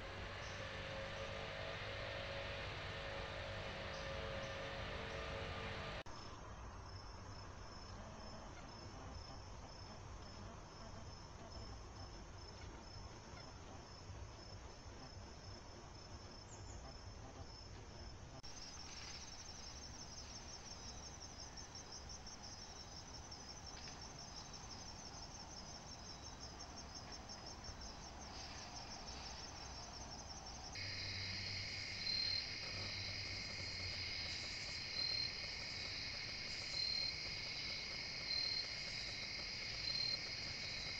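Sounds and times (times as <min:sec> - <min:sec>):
crickets and insects chirping: 0:00.0 - 0:40.9.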